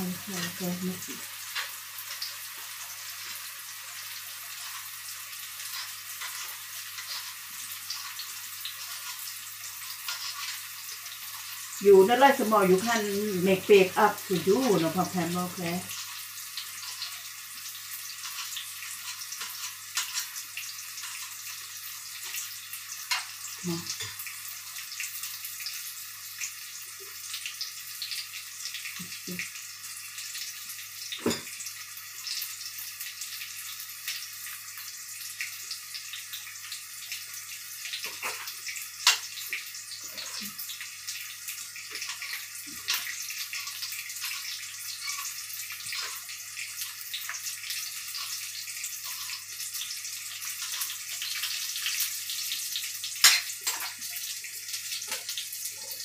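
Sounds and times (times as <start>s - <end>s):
garlic and onion frying in oil: 0.0s - 56.0s.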